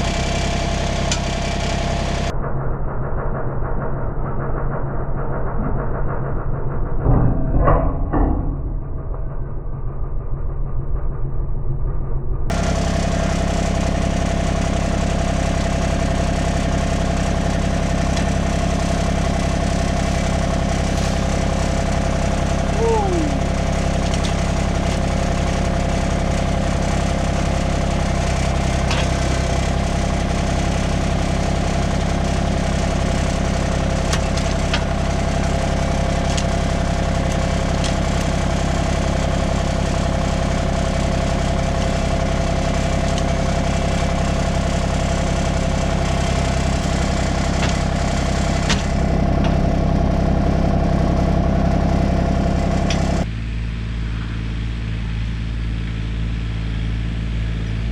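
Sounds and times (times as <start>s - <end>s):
tractor engine running: 0.0s - 4.6s, 12.5s - 57.9s.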